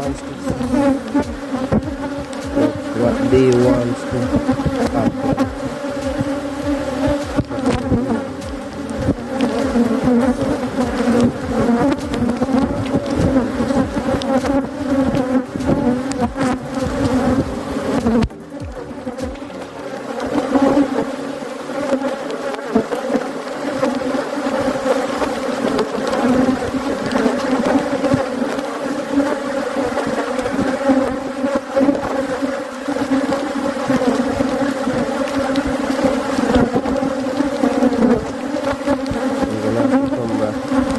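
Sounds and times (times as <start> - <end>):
bees buzzing around hive: 0.0 - 40.9.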